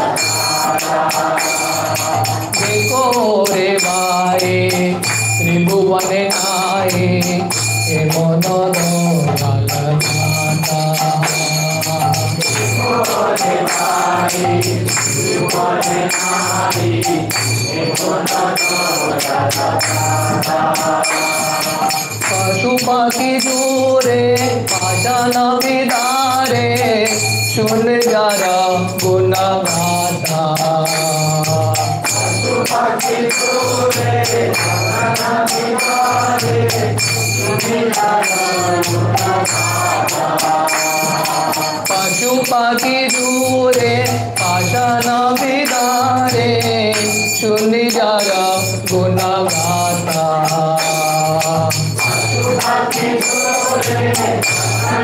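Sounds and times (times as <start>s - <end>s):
group of voices singing: 0.0s - 55.0s
hand cymbals clashing: 0.0s - 55.0s.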